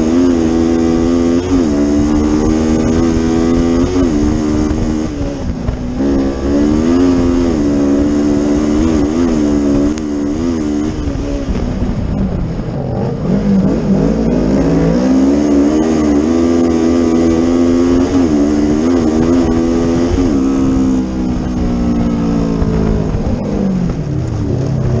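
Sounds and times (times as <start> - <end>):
race car engine at high revs: 0.0 - 25.0.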